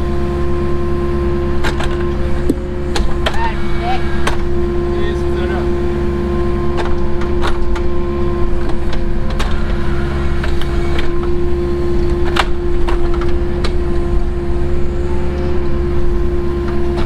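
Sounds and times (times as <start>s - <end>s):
excavator diesel engine running: 0.0s - 17.0s
high whine: 0.0s - 17.0s.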